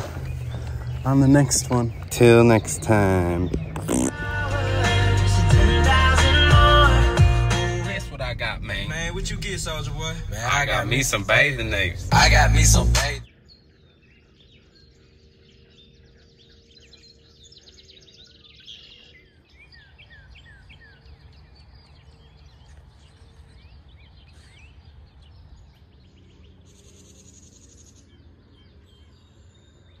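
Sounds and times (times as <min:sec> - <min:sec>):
birds chirping and singing: 0:00.0 - 0:30.0
faint low outdoor rumble: 0:00.0 - 0:30.0.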